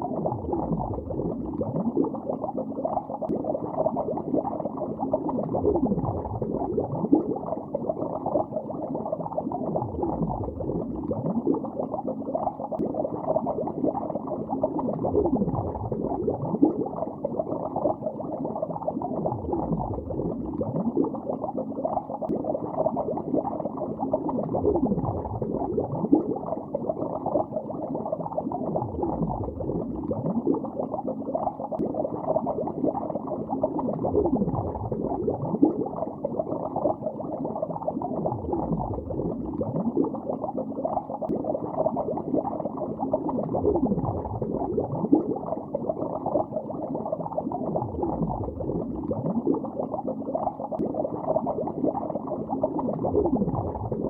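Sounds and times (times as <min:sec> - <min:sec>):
underwater bubbling: 0:00.0 - 0:54.0.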